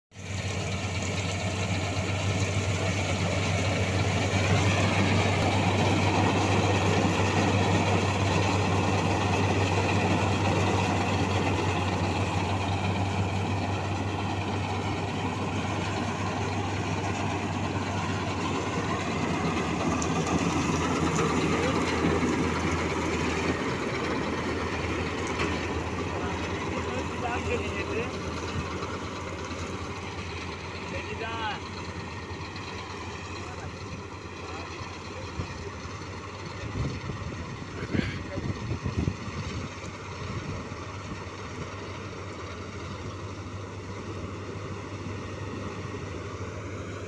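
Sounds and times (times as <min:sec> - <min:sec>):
combine harvester machinery running: 0:00.1 - 0:47.0.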